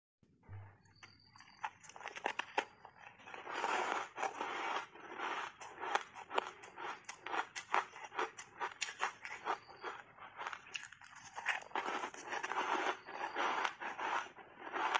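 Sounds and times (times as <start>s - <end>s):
person crunching ice: 1.3s - 14.9s.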